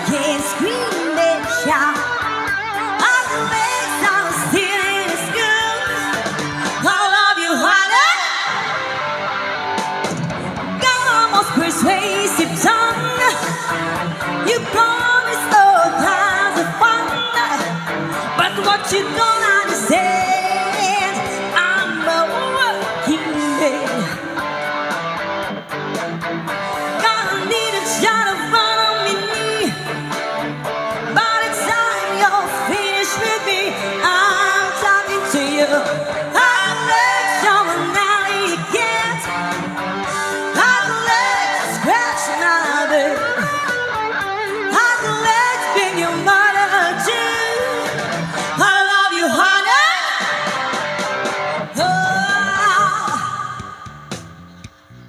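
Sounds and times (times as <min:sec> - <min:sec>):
person singing: 0:00.0 - 0:24.8, 0:26.5 - 0:55.0
rock band playing: 0:00.0 - 0:55.0.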